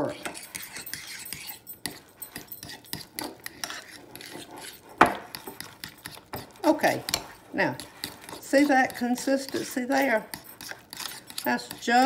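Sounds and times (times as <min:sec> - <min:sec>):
fork clinking and scraping bowl: 0:00.0 - 0:12.0.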